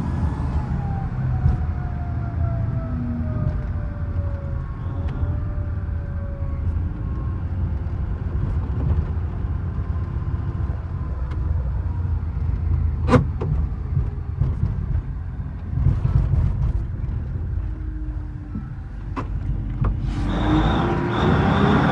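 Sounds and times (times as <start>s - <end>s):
dump truck engine rumbling: 0.0s - 21.9s.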